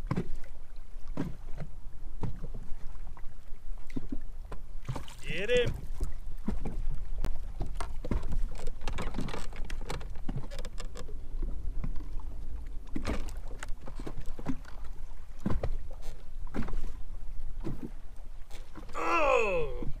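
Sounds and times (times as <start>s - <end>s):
waves slapping against boat hull: 0.0s - 20.0s.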